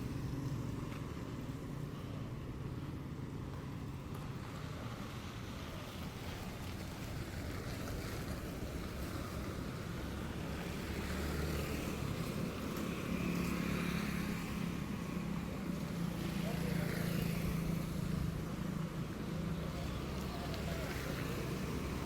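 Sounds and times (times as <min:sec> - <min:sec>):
passing traffic rumble: 0:00.0 - 0:22.0.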